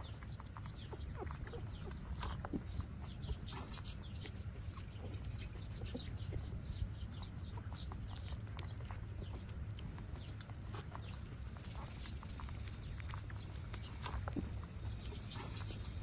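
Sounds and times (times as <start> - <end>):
puppies squeaking and whimpering: 0.0 - 16.0
steady low rumble: 0.0 - 16.0.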